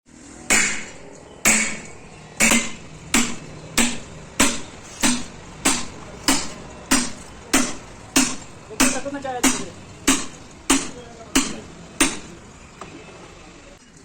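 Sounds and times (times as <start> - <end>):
hammer strikes ringing: 0.5 - 12.5.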